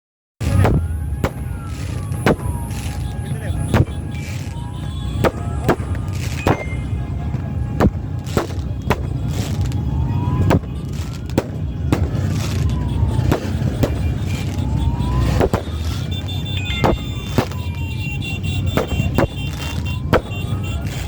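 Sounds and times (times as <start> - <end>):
fireworks banging: 0.4 - 21.0
motorcycle engines rumbling: 0.4 - 21.0
siren-like wail: 0.4 - 21.0.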